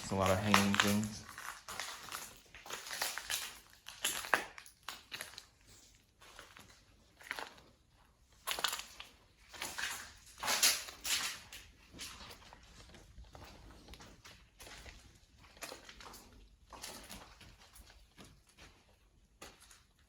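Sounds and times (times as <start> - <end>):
footsteps crunching on littered floor: 0.0 - 20.0.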